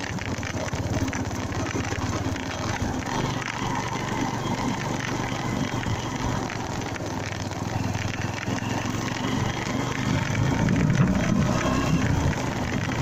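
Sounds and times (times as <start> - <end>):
motorcycle engine running: 0.0 - 13.0
wind and road hiss: 0.0 - 13.0.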